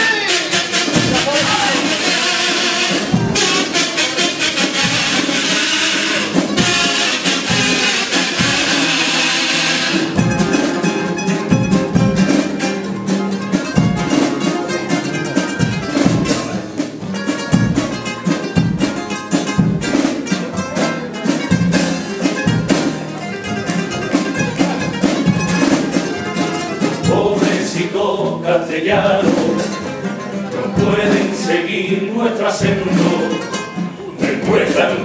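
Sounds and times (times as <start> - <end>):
guitars strumming and picking: 0.0 - 35.0
percussion: 0.0 - 35.0.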